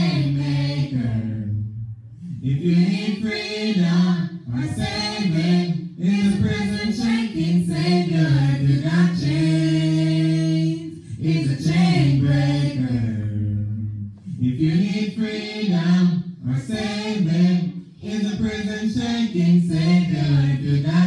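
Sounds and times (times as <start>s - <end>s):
voices singing gospel a cappella: 0.0s - 21.0s.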